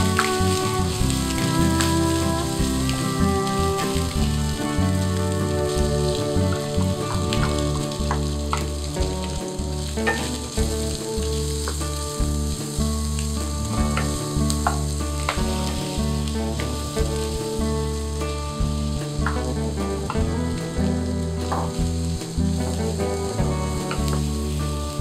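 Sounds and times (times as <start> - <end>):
background music: 0.0 - 25.0
chicken and onion sizzling in a wok: 0.0 - 25.0.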